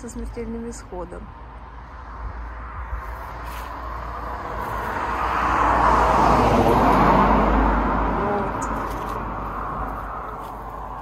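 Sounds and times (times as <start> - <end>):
car driving past: 2.0 - 11.0.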